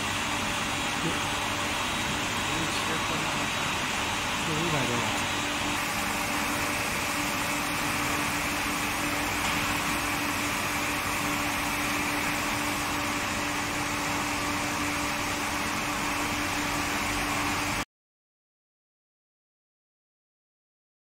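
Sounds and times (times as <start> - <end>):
machine hum with hiss: 0.0 - 17.9.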